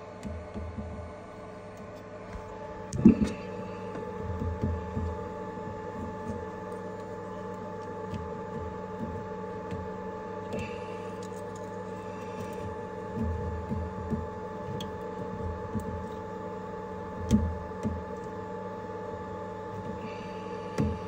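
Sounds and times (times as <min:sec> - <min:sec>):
mill multi-tone hum: 0:00.0 - 0:21.0.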